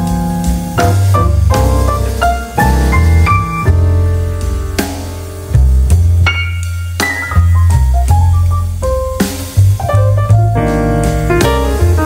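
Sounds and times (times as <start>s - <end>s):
instrumental background music: 0.0s - 12.0s
steady low bass: 0.0s - 12.0s.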